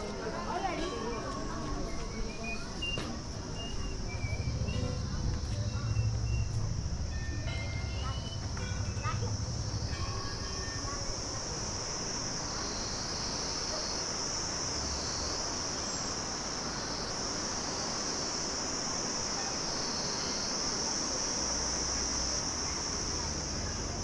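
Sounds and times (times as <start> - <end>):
insects buzzing: 2.8 - 24.0.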